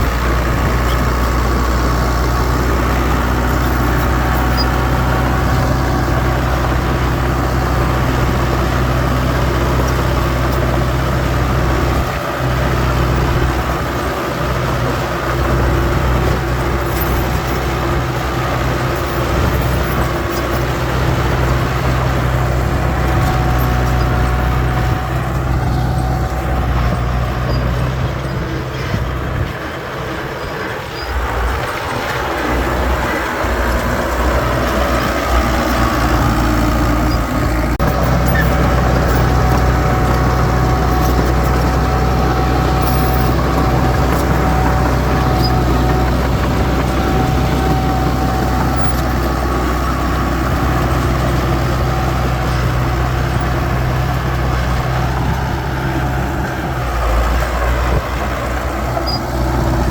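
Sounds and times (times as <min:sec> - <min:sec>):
engine whine: 0:00.0 - 0:59.9
heavy diesel engines droning: 0:00.0 - 0:59.9.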